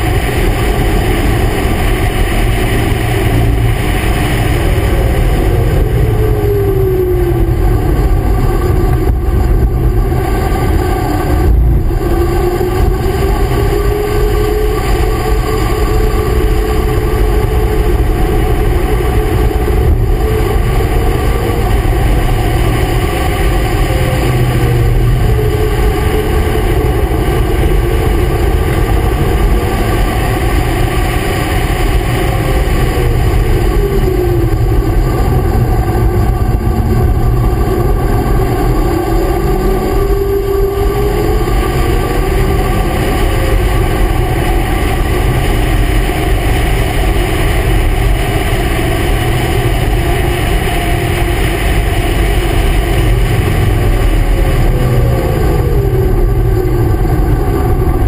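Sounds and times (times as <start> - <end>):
racing engine: 0.0 - 58.0
wind and road noise: 0.0 - 58.0.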